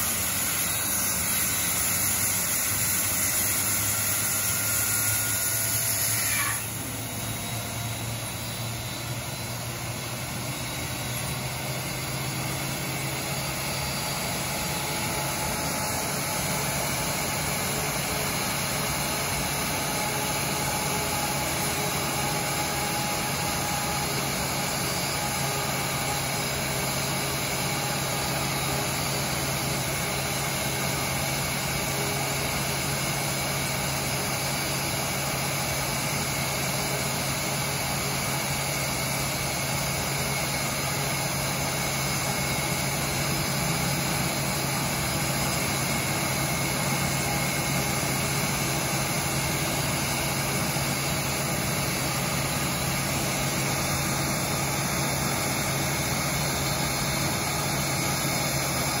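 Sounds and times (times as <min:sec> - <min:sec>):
jet engine idling: 0:06.6 - 0:59.0.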